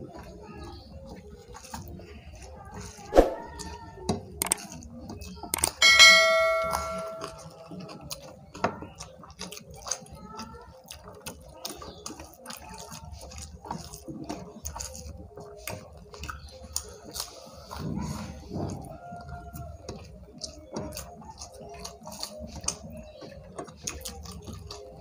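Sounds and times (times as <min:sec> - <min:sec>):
chewing and lip-smacking: 0:00.0 - 0:05.8, 0:07.6 - 0:25.0
fingers squelching food: 0:00.0 - 0:05.8, 0:07.9 - 0:25.0.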